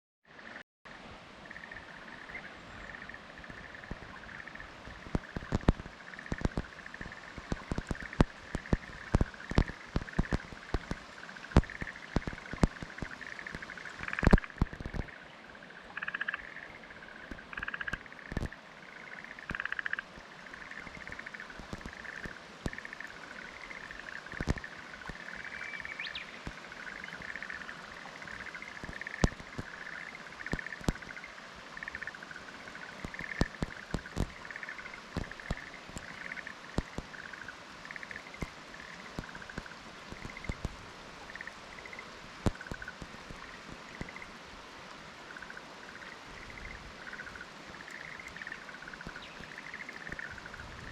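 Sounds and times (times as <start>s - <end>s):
frogs calling in chorus: 1.5s - 40.7s, 41.3s - 44.3s, 45.3s - 50.7s.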